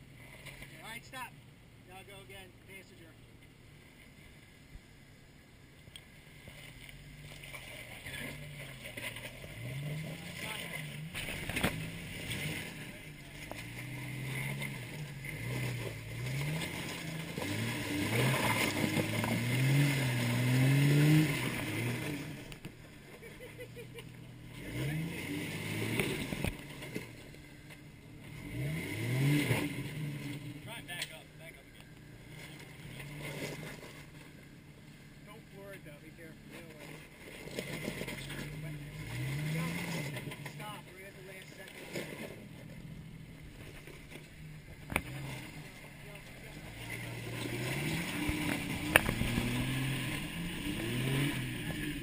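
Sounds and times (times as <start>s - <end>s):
engine pulling under load: 6.3s - 52.0s.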